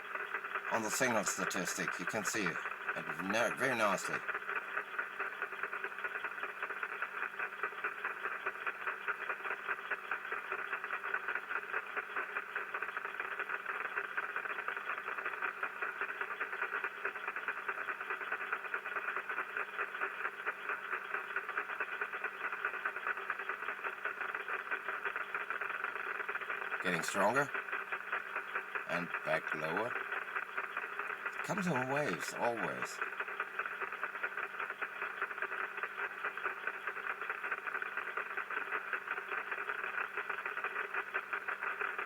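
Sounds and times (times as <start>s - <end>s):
radio static crackling hiss: 0.0s - 42.0s.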